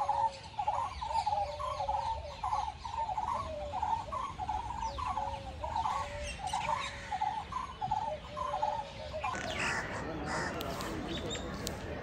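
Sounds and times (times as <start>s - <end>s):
rapid rattling animal calls: 0.0s - 12.0s.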